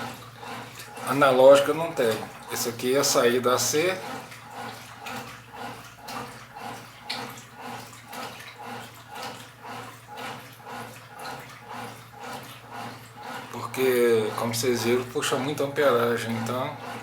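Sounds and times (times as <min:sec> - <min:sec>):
washing machine low hum: 0:00.0 - 0:17.0
washing machine water sloshing: 0:00.0 - 0:17.0.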